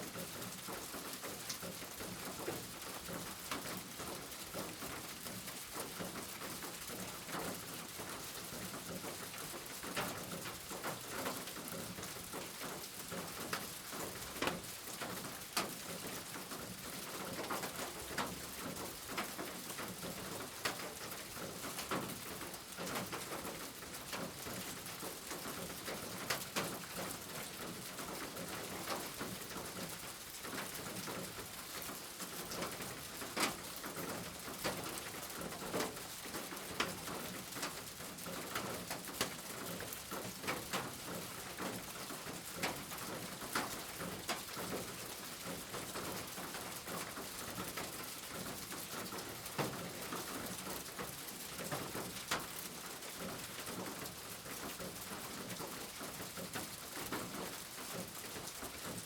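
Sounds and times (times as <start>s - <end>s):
rain drops tapping: 0.1s - 59.0s.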